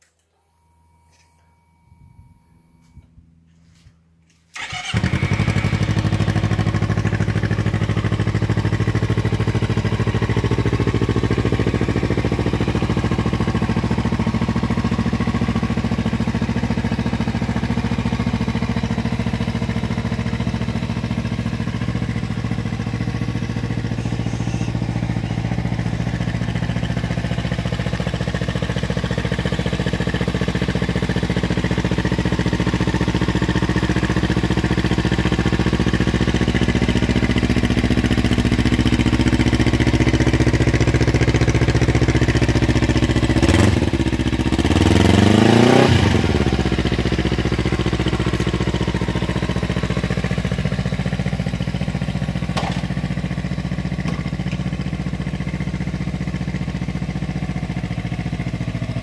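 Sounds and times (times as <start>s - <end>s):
motorcycle engine starting and idling: 0.0s - 59.0s.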